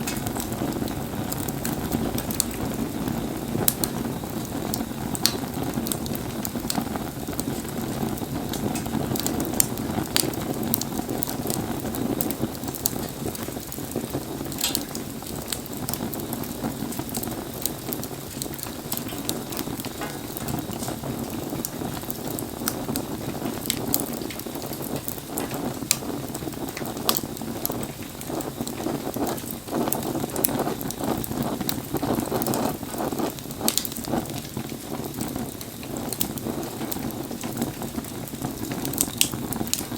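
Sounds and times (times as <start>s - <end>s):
campfire crackling and popping: 0.0s - 39.9s
rain hissing: 0.0s - 39.9s.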